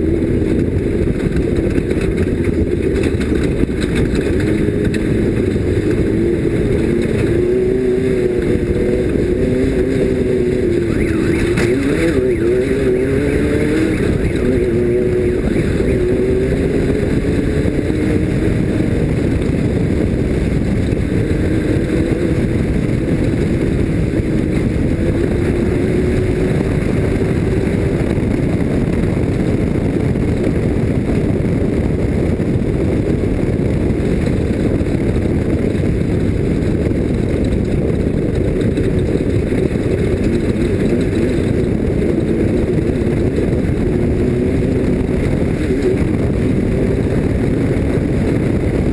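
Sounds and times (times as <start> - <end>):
race vehicle engine running: 0.0 - 48.9
rush of wind and terrain: 0.0 - 48.9.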